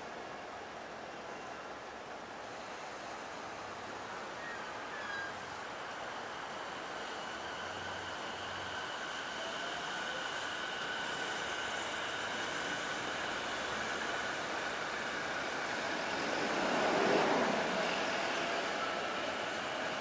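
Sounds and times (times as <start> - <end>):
electric train running on tracks: 0.0 - 20.0.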